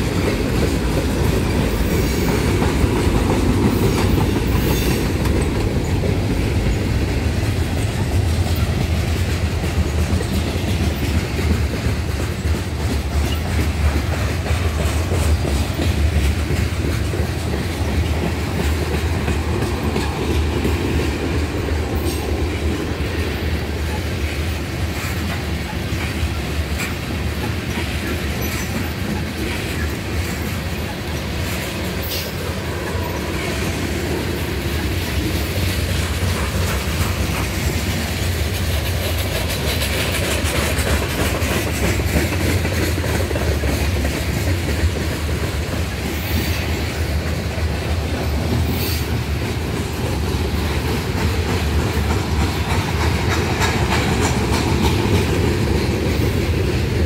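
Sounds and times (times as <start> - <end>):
train wheels rumbling and clacking: 0.0 - 57.0.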